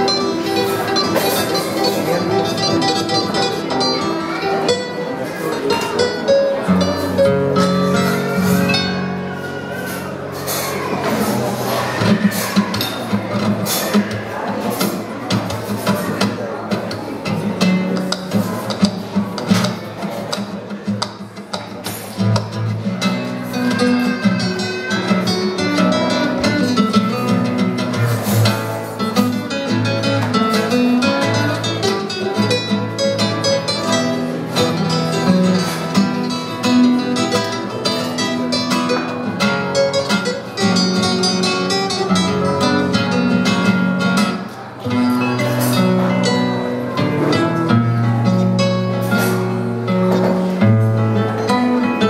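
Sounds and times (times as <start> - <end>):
classical guitar duet: 0.0 - 52.0.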